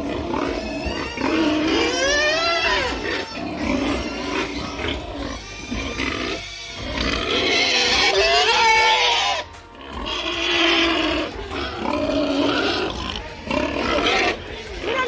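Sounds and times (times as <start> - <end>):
pigs squealing: 0.0 - 15.0.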